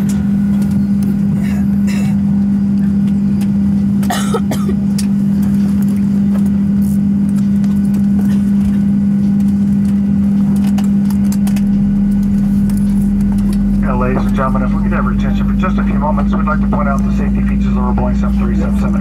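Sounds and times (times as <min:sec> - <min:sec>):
aircraft cabin drone: 0:00.0 - 0:19.0.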